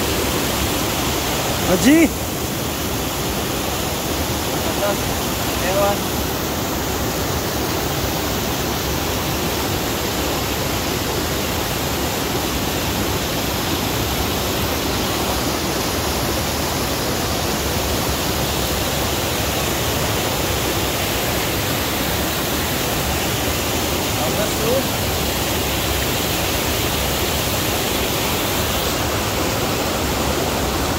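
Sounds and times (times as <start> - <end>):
stream tumbling over rocks: 0.0 - 30.9
waterfall rushing: 0.0 - 30.9.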